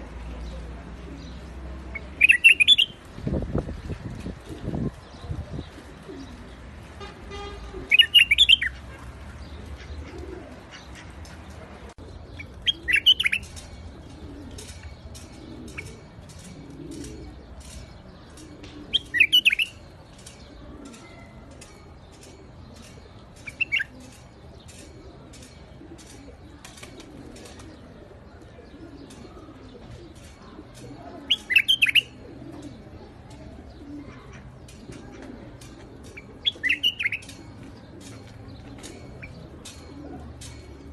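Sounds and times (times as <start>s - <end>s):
bulbul singing warbling phrases: 0.0s - 3.0s, 5.0s - 11.0s, 12.0s - 40.9s.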